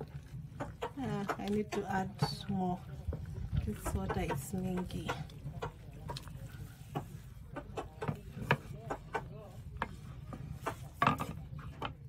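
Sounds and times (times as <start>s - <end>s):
wooden stick scraping metal pot: 0.0s - 12.0s.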